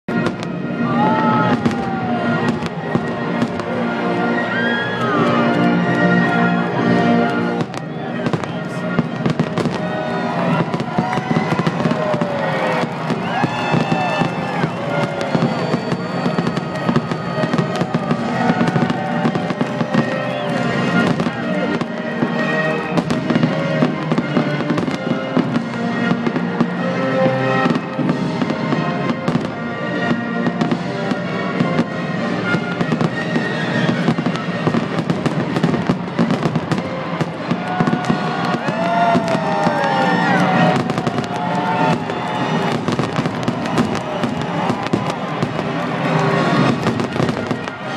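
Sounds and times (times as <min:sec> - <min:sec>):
fireworks bursting: 0:00.1 - 0:47.9
fireworks crackling: 0:00.1 - 0:47.9
music: 0:00.1 - 0:47.9.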